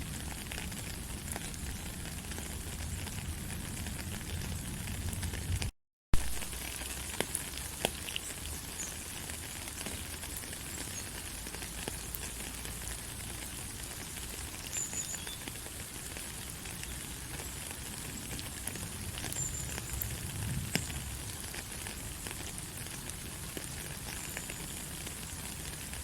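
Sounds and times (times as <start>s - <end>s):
light rain hissing: 0.0s - 26.0s.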